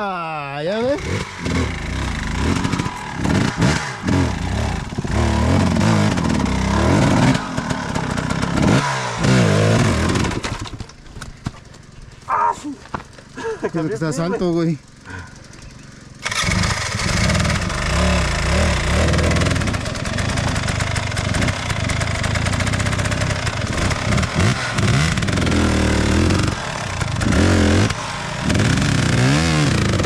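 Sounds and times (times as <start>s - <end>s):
dirt bike engine revving: 0.0s - 10.9s, 12.3s - 30.0s.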